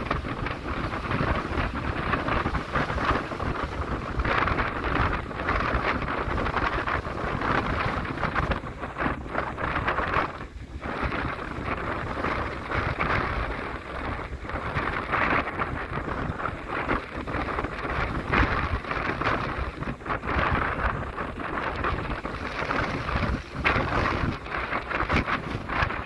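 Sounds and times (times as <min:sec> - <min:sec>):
rushing sea water: 0:00.0 - 0:26.0
wind buffeting microphone: 0:00.0 - 0:26.0.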